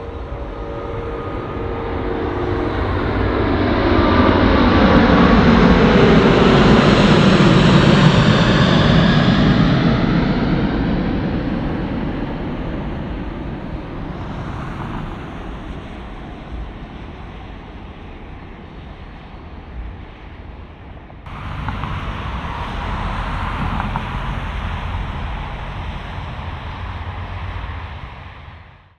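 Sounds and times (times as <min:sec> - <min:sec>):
jet airliner climbing: 0:00.0 - 0:18.4, 0:20.3 - 0:28.9
wind buffeting microphone: 0:00.0 - 0:28.8
faint jet whine: 0:00.0 - 0:28.9.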